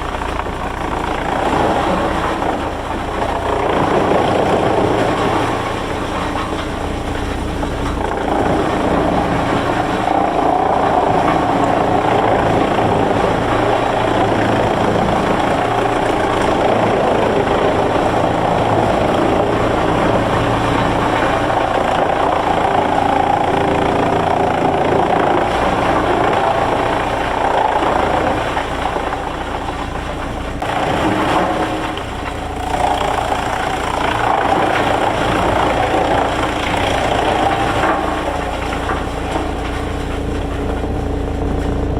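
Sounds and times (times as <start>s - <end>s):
heavy machinery engine drone: 0.0s - 41.9s.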